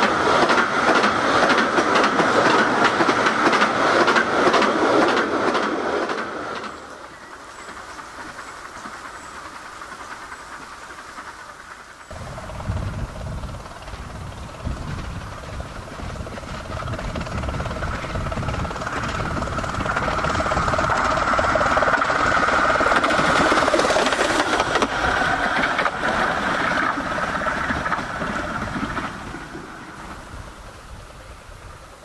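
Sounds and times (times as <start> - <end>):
steam locomotive passing: 0.0 - 32.0.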